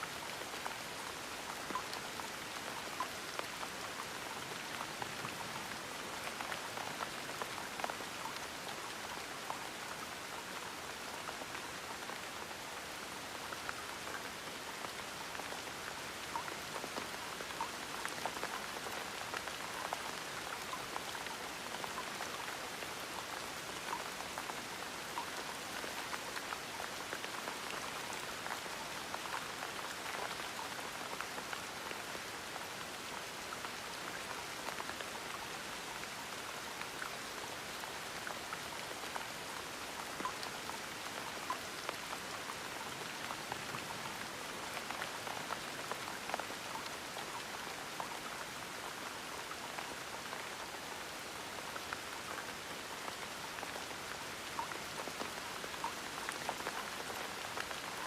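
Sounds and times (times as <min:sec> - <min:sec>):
gentle rain pattering: 0:00.0 - 0:58.0.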